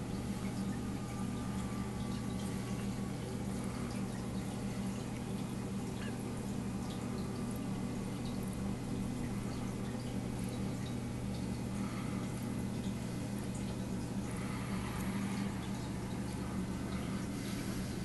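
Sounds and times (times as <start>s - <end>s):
low pump hum: 0.0s - 18.0s
water trickling and dripping: 0.0s - 18.0s.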